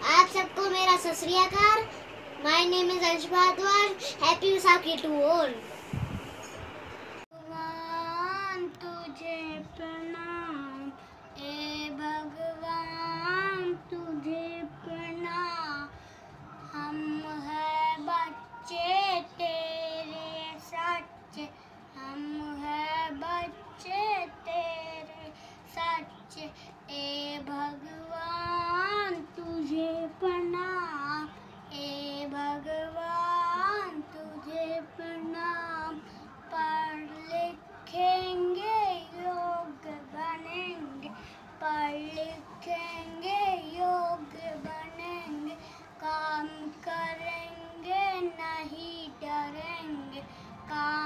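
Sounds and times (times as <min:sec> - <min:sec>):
boy singing: 0:00.0 - 0:05.8, 0:07.4 - 0:15.9, 0:16.7 - 0:51.0.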